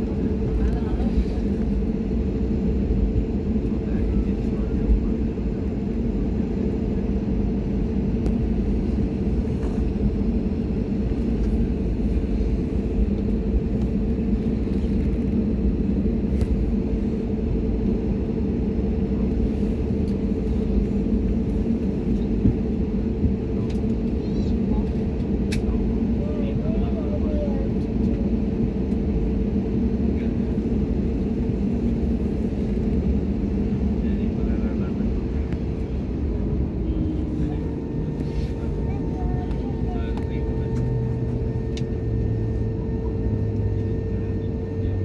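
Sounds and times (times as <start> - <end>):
aircraft cabin engine rumble: 0.0 - 45.0
constant cabin hum: 0.0 - 45.0.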